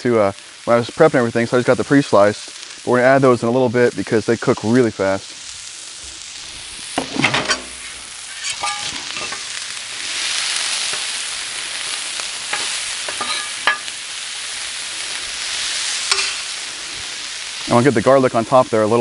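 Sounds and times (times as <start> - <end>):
vegetables sizzling on a griddle: 0.0 - 19.0.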